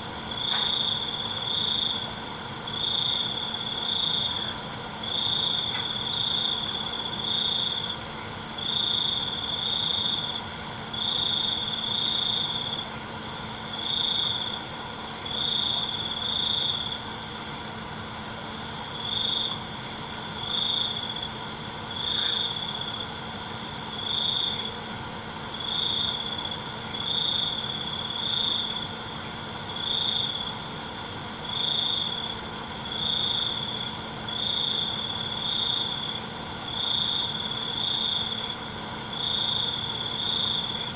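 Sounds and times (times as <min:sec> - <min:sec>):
high trill of crickets and insects: 0:00.0 - 0:40.9
loud cricket chirping: 0:00.0 - 0:40.9.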